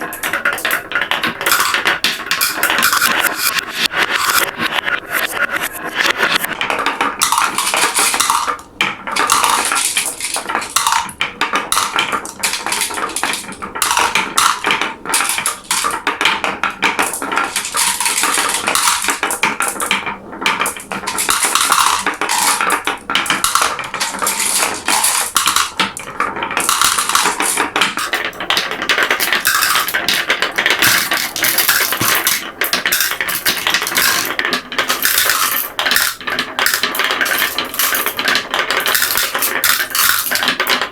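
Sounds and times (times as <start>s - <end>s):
glass marbles rattling down a run: 0.0s - 4.5s, 6.2s - 40.9s.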